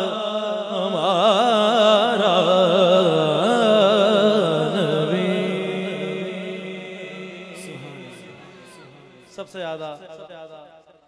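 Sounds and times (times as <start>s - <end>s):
man singing unaccompanied: 0.0s - 9.9s.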